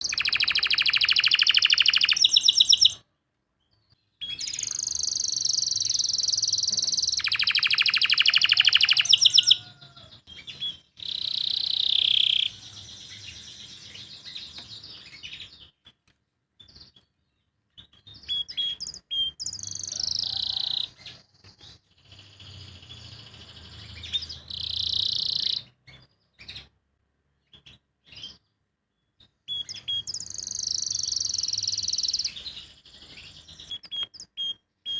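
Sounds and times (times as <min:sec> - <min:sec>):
canary singing trills: 0:00.0 - 0:03.0, 0:03.6 - 0:15.9, 0:16.6 - 0:26.8, 0:27.4 - 0:34.9.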